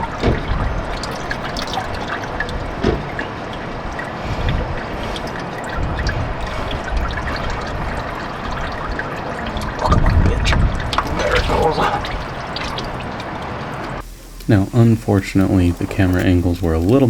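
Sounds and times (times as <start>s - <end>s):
oil trickling and pouring: 0.0s - 17.0s.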